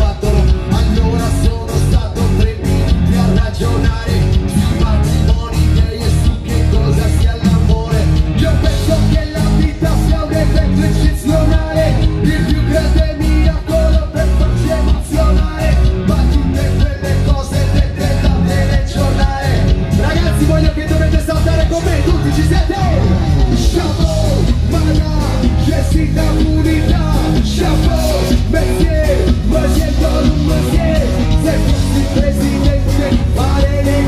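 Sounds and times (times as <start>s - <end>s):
live pop-rock band: 0.0s - 34.0s.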